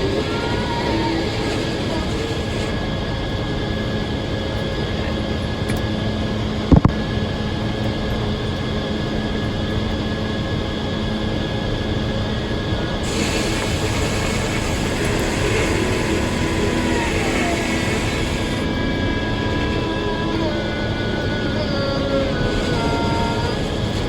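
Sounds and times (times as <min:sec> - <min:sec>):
sawmill machinery running: 0:00.0 - 0:06.4, 0:09.0 - 0:24.0.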